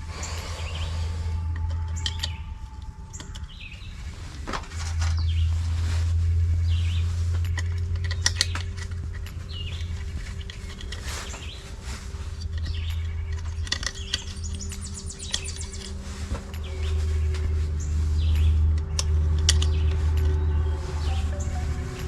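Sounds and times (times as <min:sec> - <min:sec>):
birds chirping: 0:00.0 - 0:22.0
low rumble: 0:00.0 - 0:22.0.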